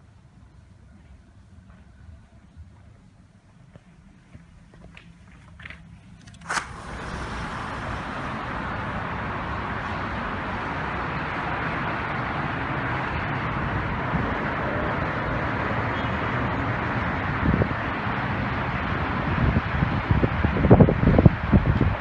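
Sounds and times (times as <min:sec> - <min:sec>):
distant highway traffic rush: 0:00.0 - 0:22.0
wind: 0:00.0 - 0:22.0.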